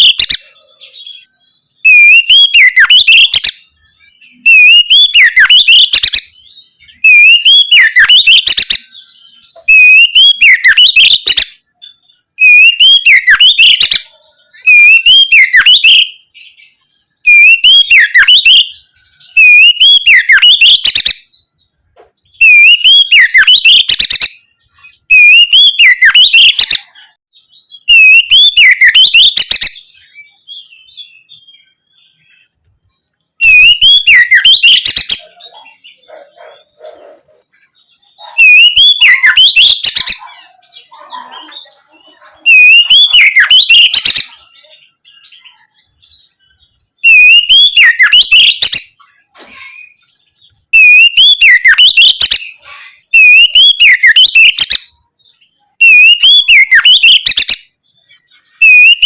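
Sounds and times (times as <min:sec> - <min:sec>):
faint soft bird calls: 0:00.0 - 0:59.0
magpie-robin singing: 0:00.0 - 0:59.0.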